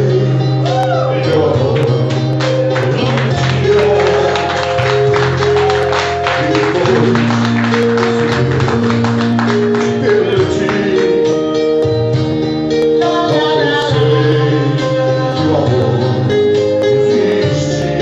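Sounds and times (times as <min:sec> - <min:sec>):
band music: 0:00.0 - 0:18.0.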